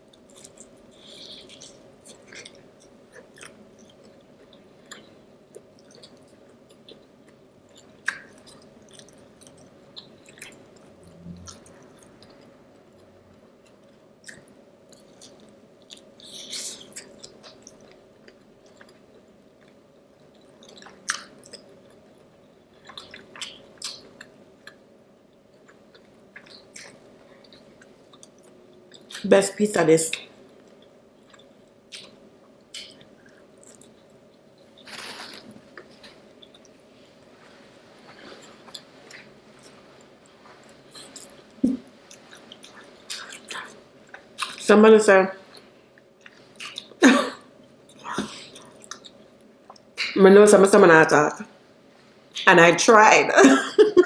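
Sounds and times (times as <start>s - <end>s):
person chewing food: 0.0s - 29.2s, 30.4s - 44.6s, 45.5s - 47.0s, 47.6s - 50.0s
faint steady hum: 0.0s - 54.0s.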